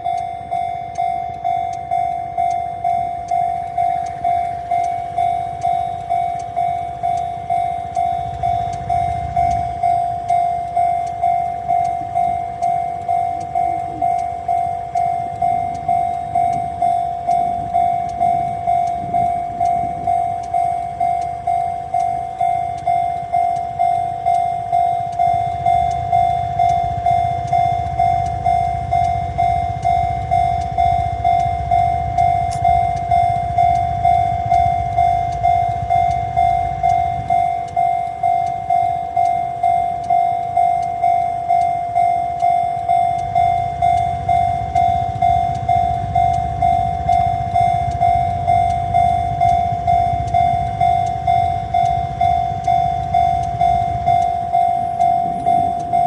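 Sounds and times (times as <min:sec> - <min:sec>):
level crossing warning bell: 0:00.0 - 0:56.0.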